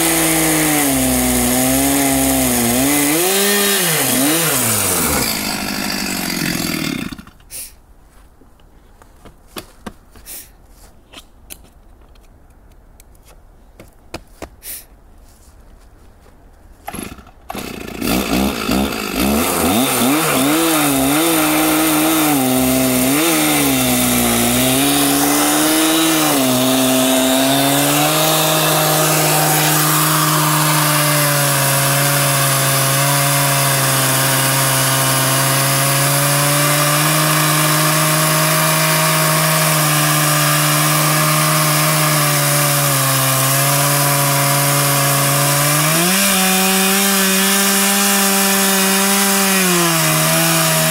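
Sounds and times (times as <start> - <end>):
chainsaw revving and cutting log: 0.0 - 7.4, 16.9 - 50.9.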